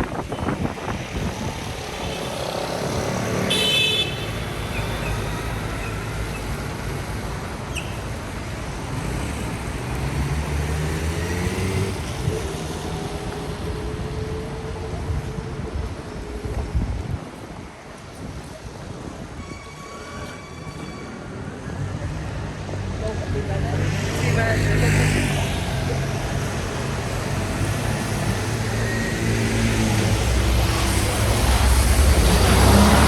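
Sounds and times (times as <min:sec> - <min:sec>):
cars passing: 0:00.0 - 0:19.4, 0:21.1 - 0:33.0.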